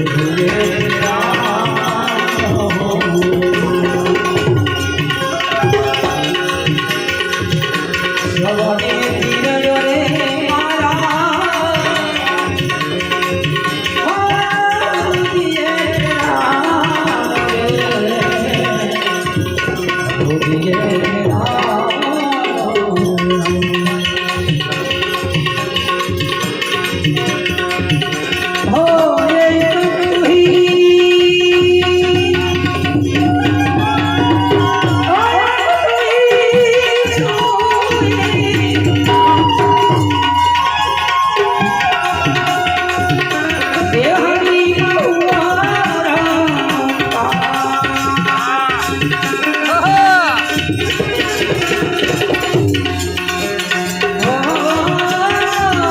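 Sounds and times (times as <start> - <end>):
harmonium melody: 0.0 - 55.9
tabla playing: 0.0 - 55.9.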